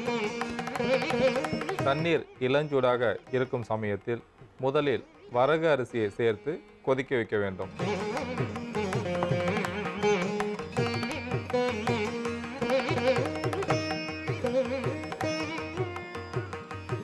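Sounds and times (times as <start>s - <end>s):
plucked string melody: 0.0s - 5.7s, 6.4s - 17.0s.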